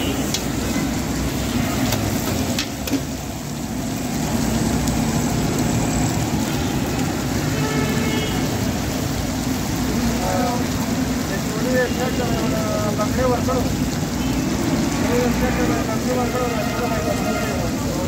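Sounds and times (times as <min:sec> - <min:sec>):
meat sizzling on griddle: 0:00.0 - 0:18.0.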